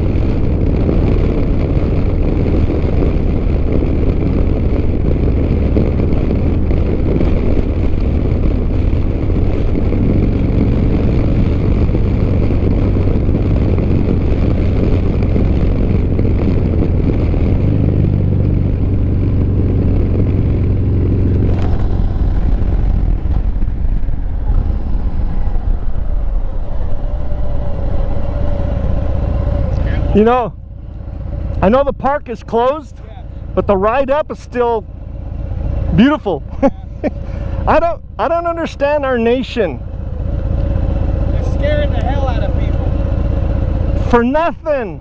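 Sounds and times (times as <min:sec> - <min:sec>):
motorcycle engine rumble: 0:00.0 - 0:45.0
wind rushing past microphone: 0:00.0 - 0:45.0.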